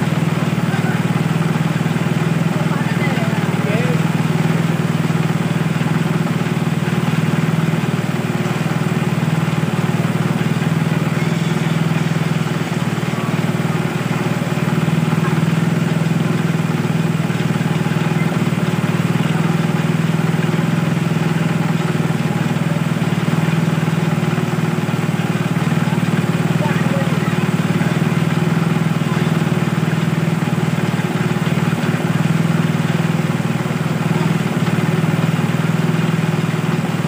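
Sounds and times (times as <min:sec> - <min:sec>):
water pump engine droning: 0:00.0 - 0:37.0.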